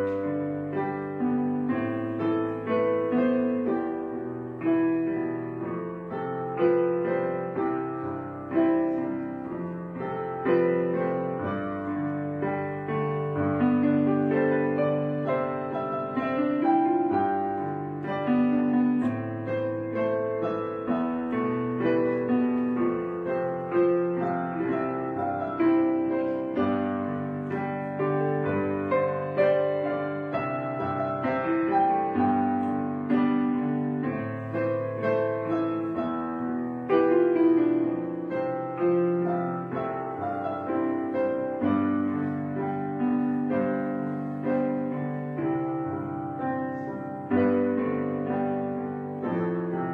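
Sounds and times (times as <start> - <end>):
piano music: 0.0 - 49.9.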